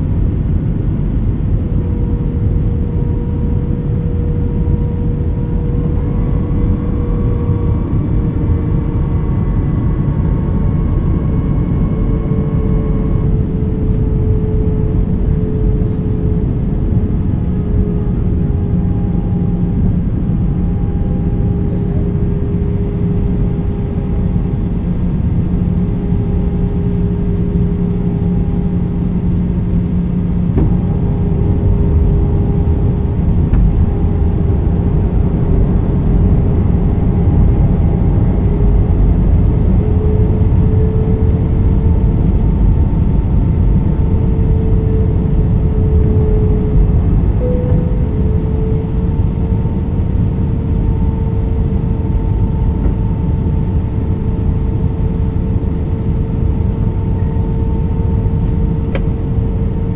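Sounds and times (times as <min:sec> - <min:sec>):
jet engines rushing in cabin: 0:00.0 - 0:59.9.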